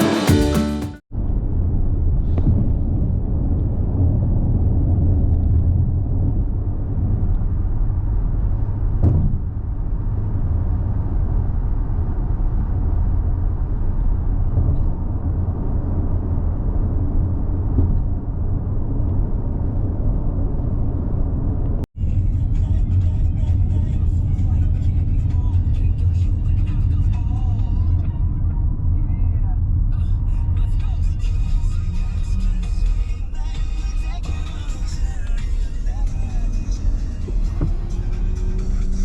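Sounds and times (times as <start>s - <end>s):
car road rumble: 1.1s - 39.0s.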